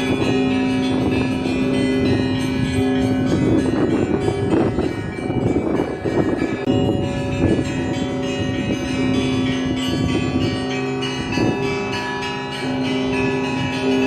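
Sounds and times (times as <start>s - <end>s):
church bells ringing in full peal: 0.0s - 14.0s
steady low bell note: 0.0s - 14.0s.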